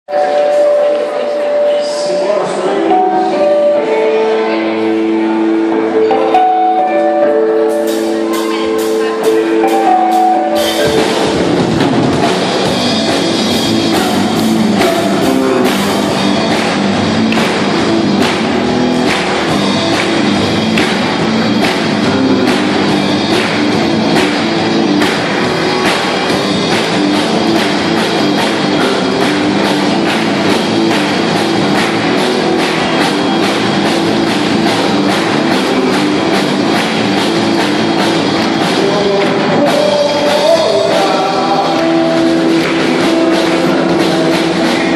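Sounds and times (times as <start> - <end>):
guitar chords: 0.1 - 44.9
drum kit beat: 5.0 - 44.9.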